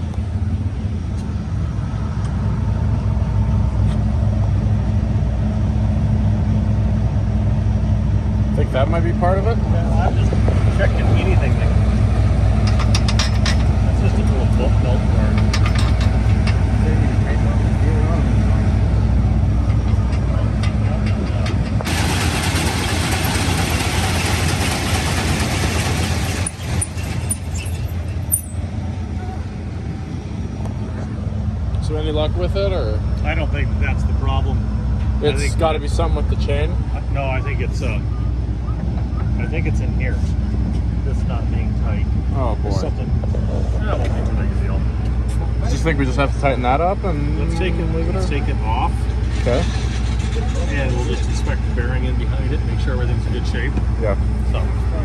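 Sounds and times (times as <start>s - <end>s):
combine engine droning: 0.0s - 55.0s.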